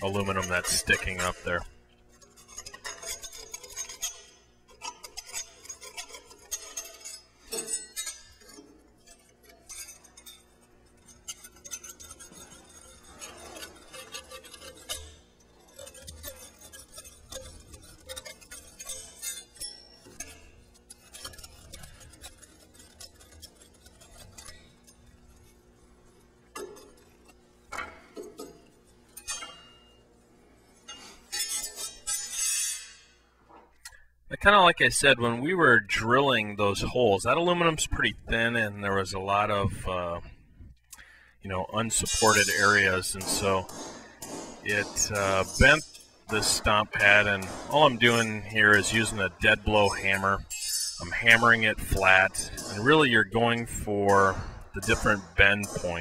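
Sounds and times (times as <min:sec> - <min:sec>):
deburring tool scraping metal: 0:00.0 - 0:34.0, 0:41.0 - 0:56.0.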